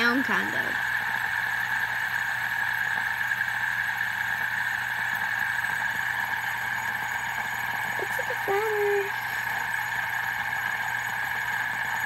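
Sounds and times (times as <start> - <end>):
fidget spinner whirring: 0.0 - 12.0.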